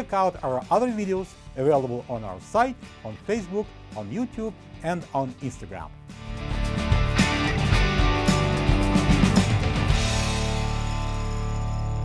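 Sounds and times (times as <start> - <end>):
rhythmic background music: 0.0 - 12.0.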